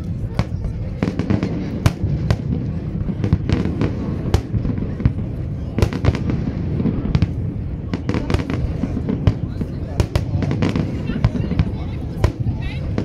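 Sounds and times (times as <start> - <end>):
firework bangs and crackles: 0.0 - 13.0
low rumble of firework bursts: 0.0 - 13.0.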